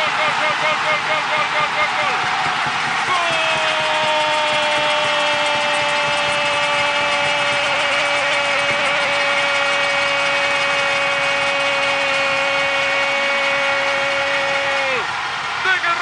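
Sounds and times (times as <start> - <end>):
crowd cheering: 0.0 - 16.0.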